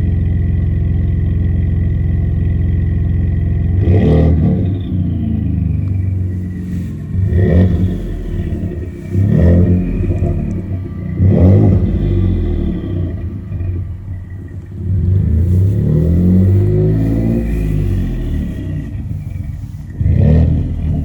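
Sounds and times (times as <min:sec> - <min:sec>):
truck engine revving: 0:03.6 - 0:21.0.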